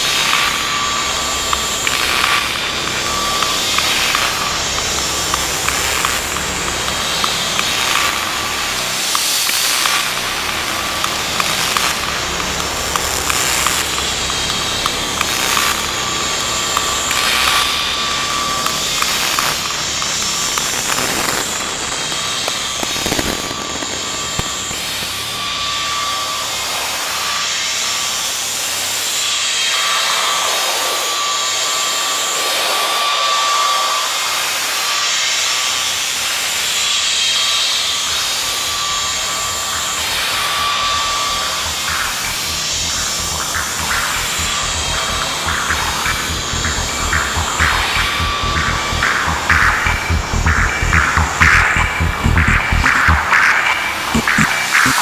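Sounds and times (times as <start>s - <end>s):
hiss-like electronic drone: 0.0s - 55.0s.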